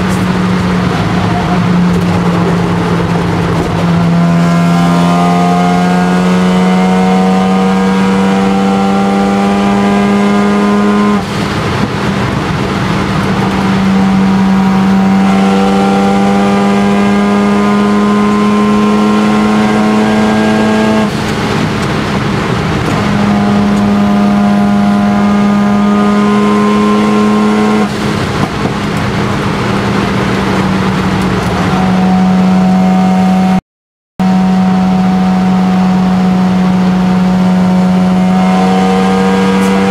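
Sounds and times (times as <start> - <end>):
rotary engine pulling hard: 0.0 - 33.6, 34.2 - 39.9
rushing noise: 0.0 - 33.6.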